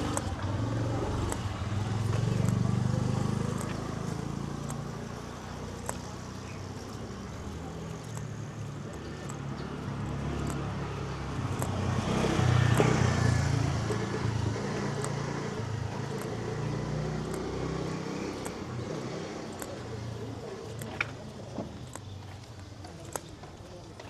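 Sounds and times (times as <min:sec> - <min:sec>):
motor vehicle passing: 0:00.0 - 0:24.0.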